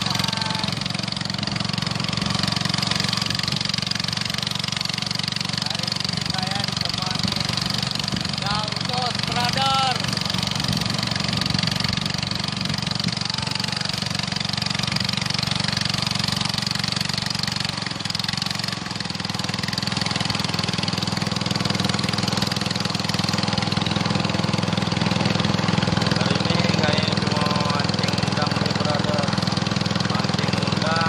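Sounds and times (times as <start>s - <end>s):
small engine droning: 0.0s - 31.0s.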